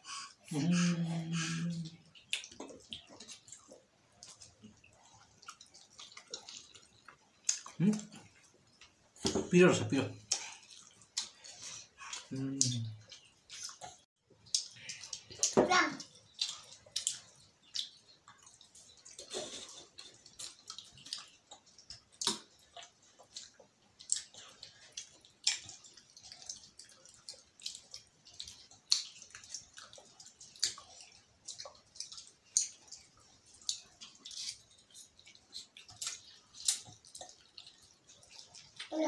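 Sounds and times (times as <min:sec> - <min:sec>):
mouth smacks and chewing: 0:00.1 - 0:09.4, 0:10.1 - 0:39.0.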